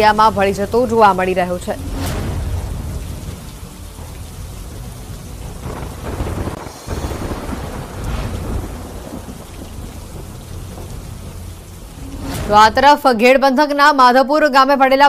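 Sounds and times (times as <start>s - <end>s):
floodwater rushing: 0.0s - 13.6s.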